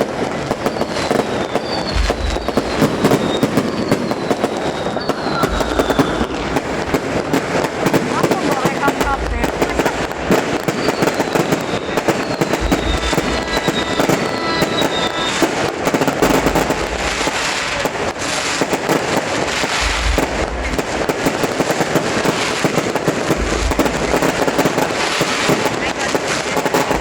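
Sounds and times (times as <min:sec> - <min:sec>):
falling firework whistles: 0:00.0 - 0:09.0, 0:09.6 - 0:27.0
deep firework booms: 0:00.0 - 0:27.0
fireworks crackling and popping: 0:00.0 - 0:27.0.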